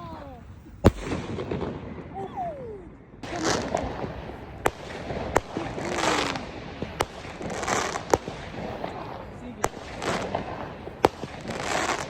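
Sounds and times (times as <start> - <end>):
fireworks hissing and crackling: 0.0 - 12.0
fireworks sharp bangs: 0.0 - 12.0.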